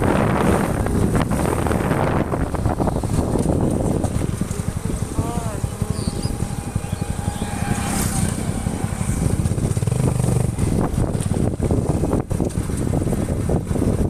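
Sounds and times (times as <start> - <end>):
motorcycle engine running: 0.0 - 14.0
road and wind noise: 0.0 - 14.0.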